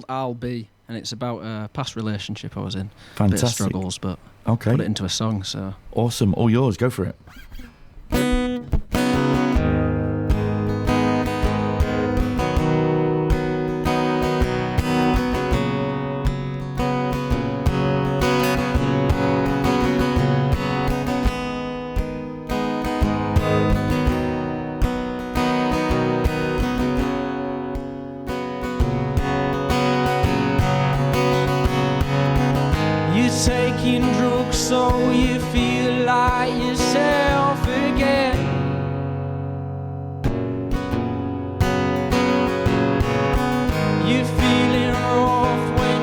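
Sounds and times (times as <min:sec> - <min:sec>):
acoustic guitar strumming: 0:03.0 - 0:04.9, 0:06.6 - 0:46.0.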